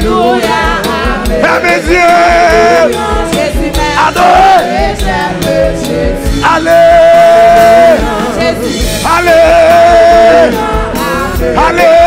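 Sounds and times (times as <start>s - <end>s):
man singing: 0.0s - 4.7s, 6.1s - 12.0s
gospel band with drums and congas: 0.0s - 12.0s.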